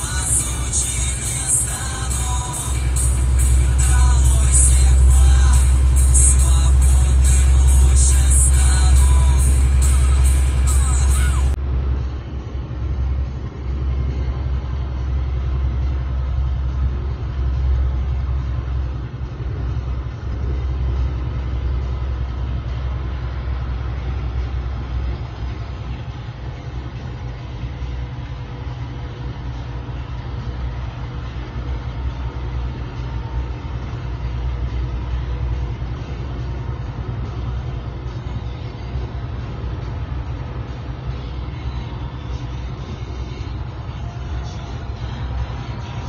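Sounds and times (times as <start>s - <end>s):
truck diesel engine drone: 0.0s - 46.0s.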